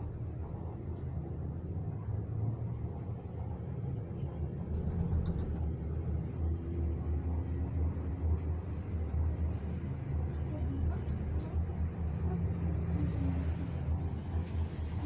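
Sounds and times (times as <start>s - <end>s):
gondola cabin rumbling: 0.0s - 15.0s.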